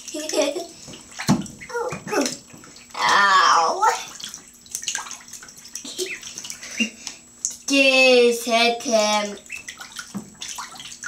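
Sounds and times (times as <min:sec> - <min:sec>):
water sloshing and splashing: 0:00.0 - 0:07.9, 0:08.5 - 0:11.0.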